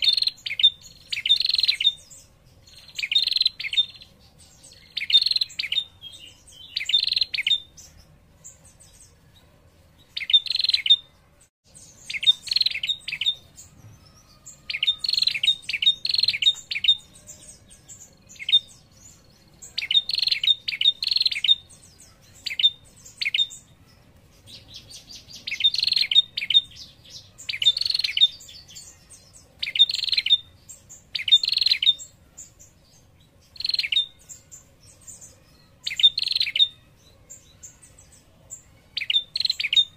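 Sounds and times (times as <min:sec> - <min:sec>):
bird trilling calls: 0:00.0 - 0:09.1, 0:10.1 - 0:11.1, 0:11.8 - 0:32.6, 0:33.5 - 0:36.9, 0:38.9 - 0:39.9.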